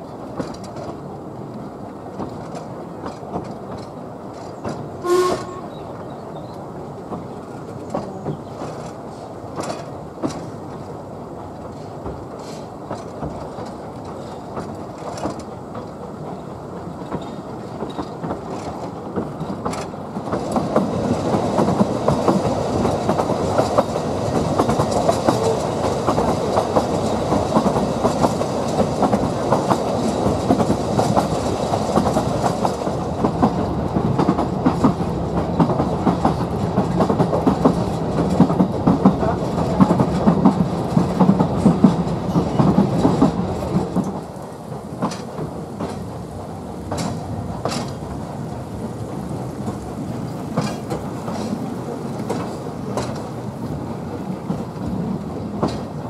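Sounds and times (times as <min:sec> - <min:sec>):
train wheels rattling on track: 0:00.0 - 0:56.0.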